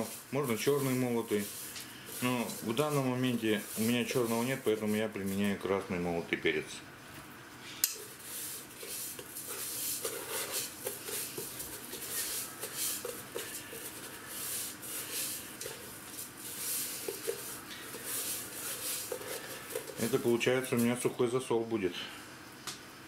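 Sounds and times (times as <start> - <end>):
gritty rustling and scraping: 0.0 - 6.0, 8.0 - 21.3.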